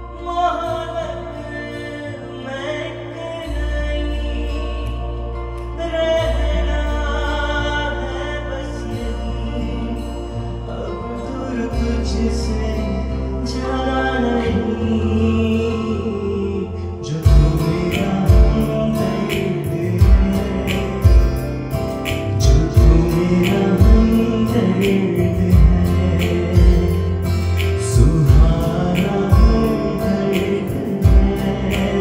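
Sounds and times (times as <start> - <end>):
man singing into microphone: 0.0 - 32.0
recorded music with steady beat: 0.0 - 32.0.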